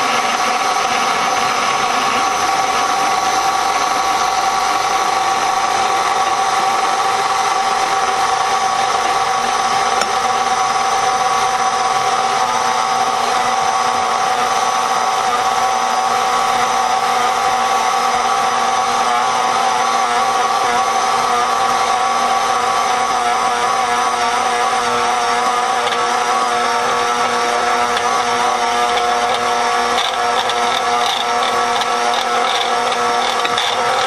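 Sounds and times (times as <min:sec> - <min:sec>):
stand mixer motor whining: 0:00.0 - 0:34.0.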